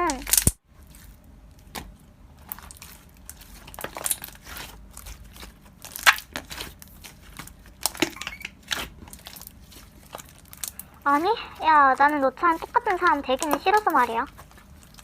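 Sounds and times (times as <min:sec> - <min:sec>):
slime squeezed by hand crackling: 0:00.0 - 0:15.0.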